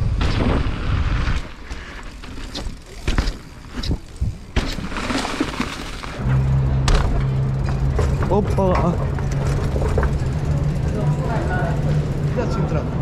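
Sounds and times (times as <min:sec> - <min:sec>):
bike clicks and knocks over bumps: 0:00.0 - 0:12.6
bike tyre noise on dirt: 0:00.0 - 0:13.0.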